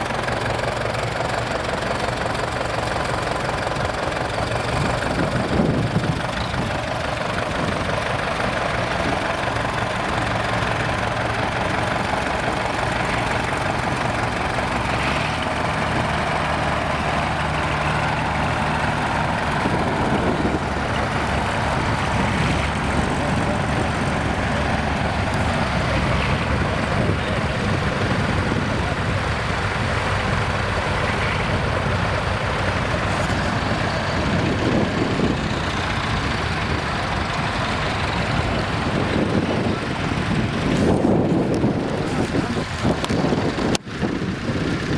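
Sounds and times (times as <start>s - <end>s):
tractor engines running: 0.0s - 44.9s.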